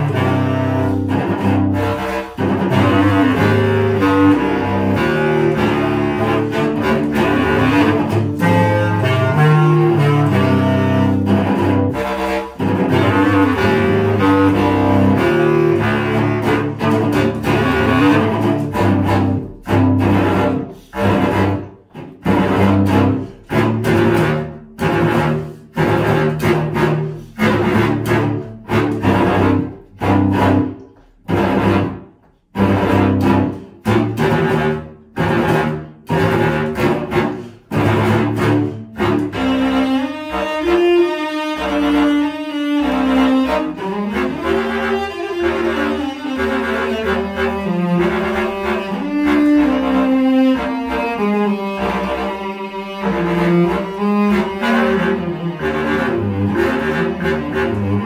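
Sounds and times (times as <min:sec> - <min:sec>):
bass clarinet and cello playing: 0:00.0 - 0:58.0.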